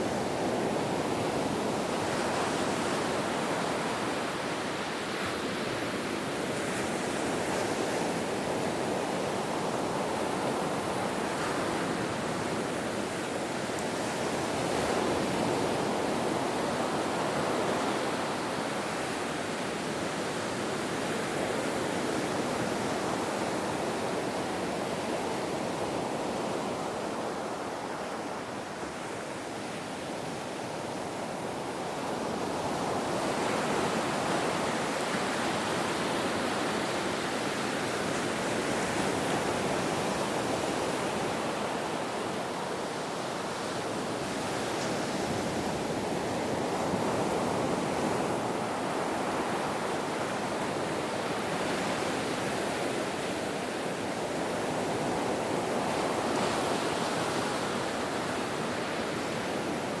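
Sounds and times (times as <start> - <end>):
ocean waves washing on shore: 0.0 - 60.0.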